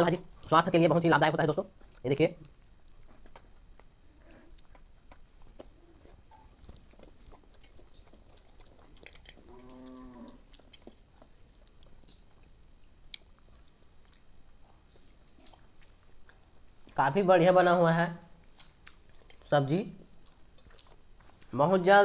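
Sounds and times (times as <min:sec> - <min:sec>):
people chewing: 0:01.7 - 0:17.2, 0:18.3 - 0:21.8.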